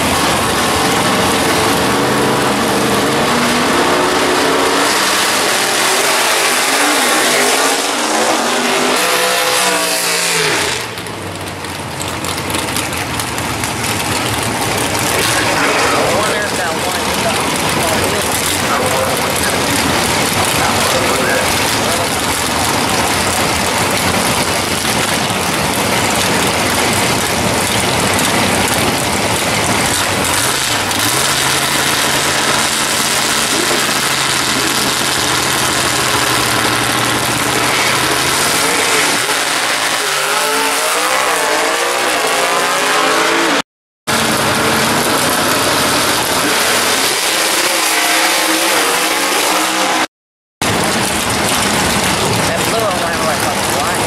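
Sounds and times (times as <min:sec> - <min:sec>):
cars accelerating hard: 0:00.0 - 0:54.0
drag racing engines revving: 0:00.0 - 0:54.0.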